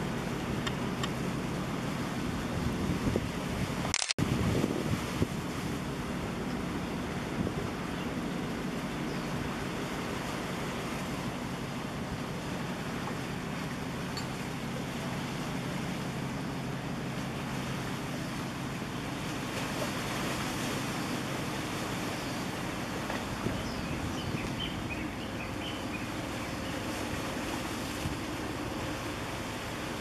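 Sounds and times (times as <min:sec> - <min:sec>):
harbour water: 0:00.0 - 0:30.0
low engine hum: 0:00.0 - 0:30.0
wind: 0:00.0 - 0:30.0.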